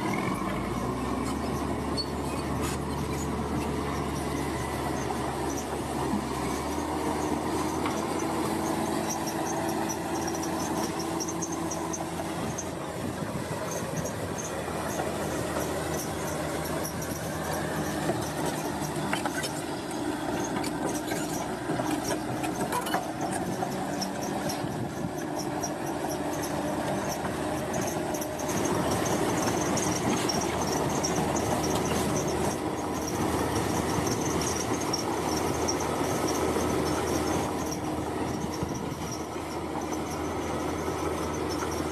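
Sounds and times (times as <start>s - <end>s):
crawler tracks squealing: 0.0s - 41.9s
diesel engine running: 0.0s - 41.9s.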